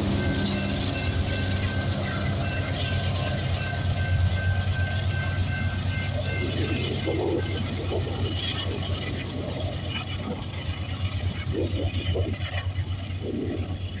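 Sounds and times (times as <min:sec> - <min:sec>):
locomotive engine rumble: 0:00.0 - 0:14.0.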